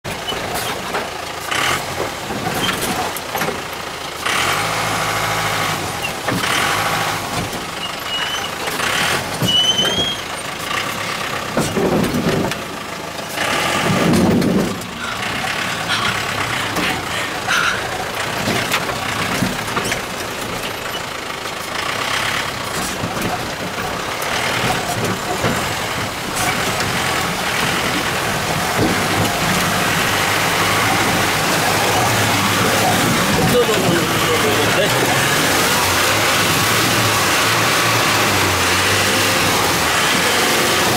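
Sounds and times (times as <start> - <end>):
jeep engine running: 0.0 - 40.9
tyre and road noise: 0.0 - 40.9
body clunks and rattles: 0.1 - 3.9, 6.0 - 6.7, 7.3 - 37.0.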